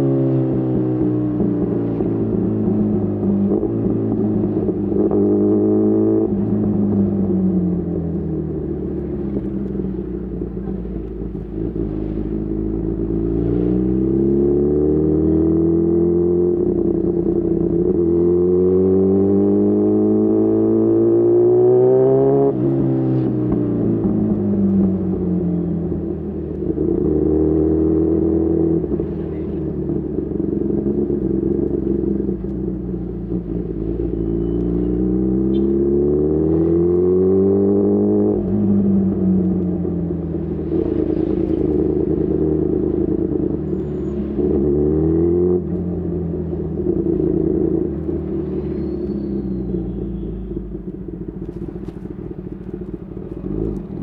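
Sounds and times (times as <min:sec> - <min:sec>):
motorcycle engine revving: 0:10.6 - 0:54.0.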